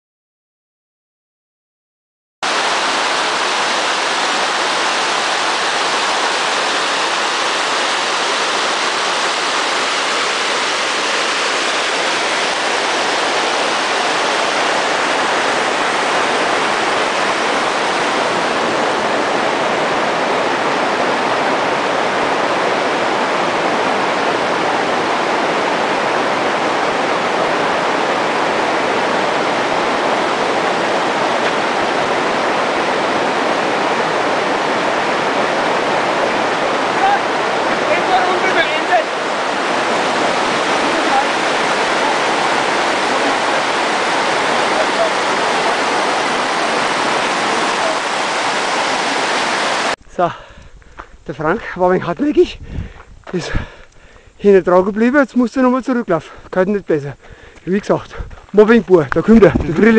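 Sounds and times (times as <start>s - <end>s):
waterfall rushing over rocks: 2.4s - 50.0s, 55.1s - 59.9s.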